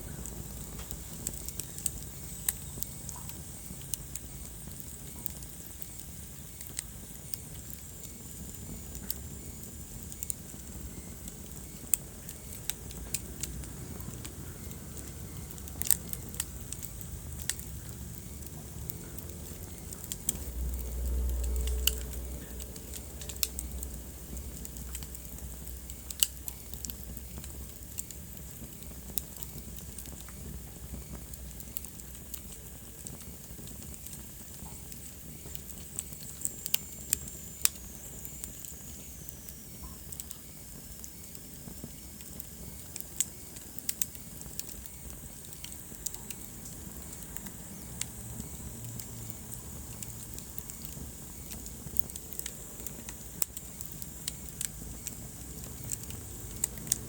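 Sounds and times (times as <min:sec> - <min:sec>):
fire popping: 0:00.0 - 0:57.0
wood fire crackling: 0:00.0 - 0:57.0.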